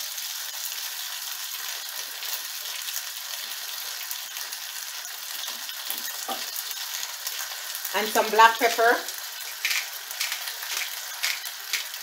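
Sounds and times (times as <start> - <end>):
dumplings sizzling in oil: 0.0 - 12.0.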